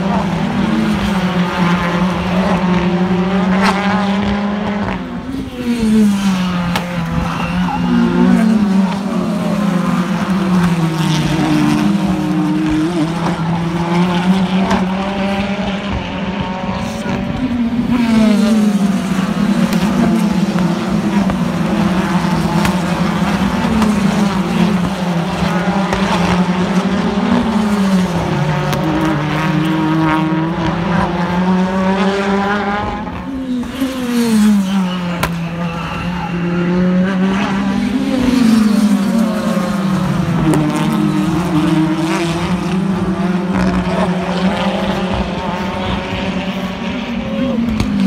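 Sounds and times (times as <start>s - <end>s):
racing car engines revving: 0.0s - 48.0s.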